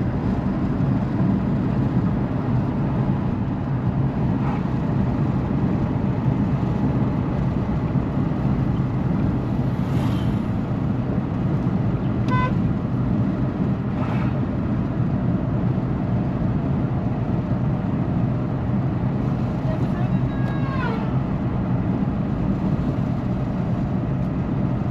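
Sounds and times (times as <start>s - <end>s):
road rumble: 0.0s - 24.9s
vehicle engine hum: 0.0s - 24.9s.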